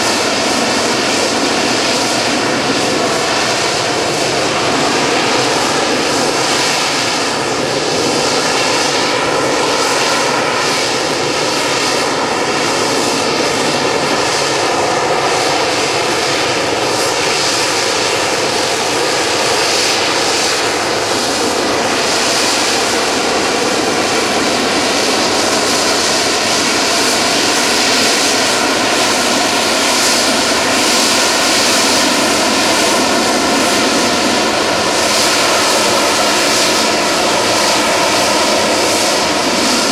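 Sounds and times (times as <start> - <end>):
jet engine running with whine: 0.0 - 39.9.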